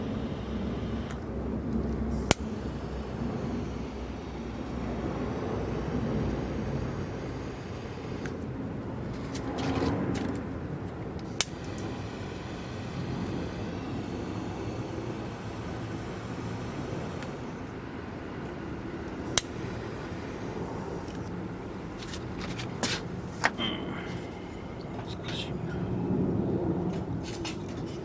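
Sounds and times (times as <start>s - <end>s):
campfire burning: 0.0s - 28.0s.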